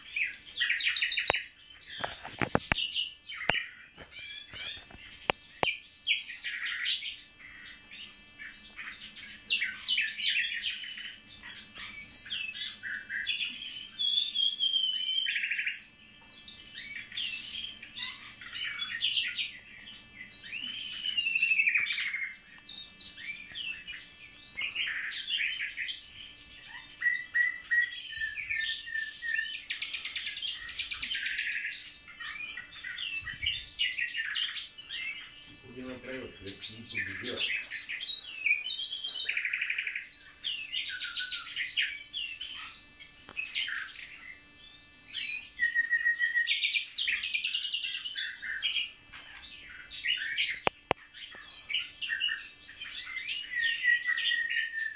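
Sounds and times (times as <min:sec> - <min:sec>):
birds singing: 0:00.0 - 0:54.9.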